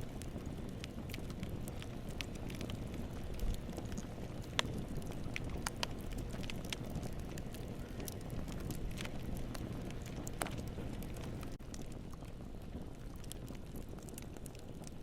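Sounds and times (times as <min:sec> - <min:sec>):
wood crackling and popping: 0:00.0 - 0:15.0
wood fire burning: 0:00.0 - 0:15.0.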